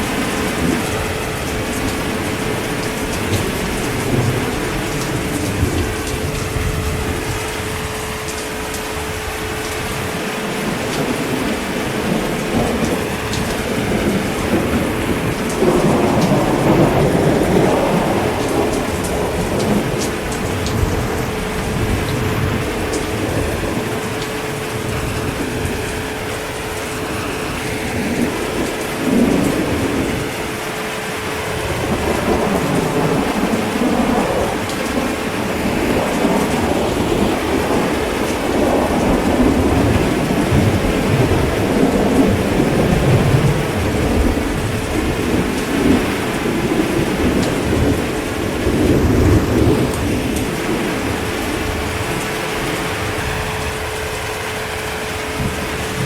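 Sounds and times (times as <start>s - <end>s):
heavy rain: 0.0s - 56.0s
rolling thunder: 0.0s - 56.0s.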